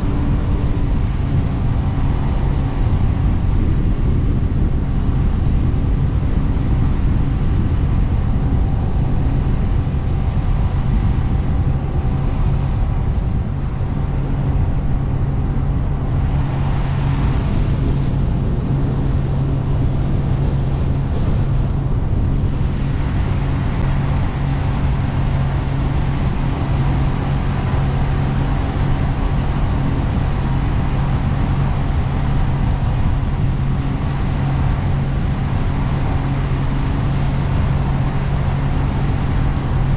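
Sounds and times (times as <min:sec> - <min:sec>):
jet boat engine running: 0:00.0 - 0:39.9
rushing water and wind: 0:00.0 - 0:39.9.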